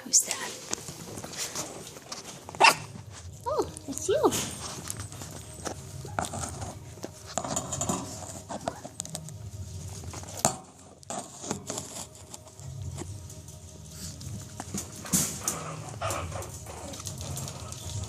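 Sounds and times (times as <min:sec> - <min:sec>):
puppies scuffling and pattering: 0:00.2 - 0:18.0.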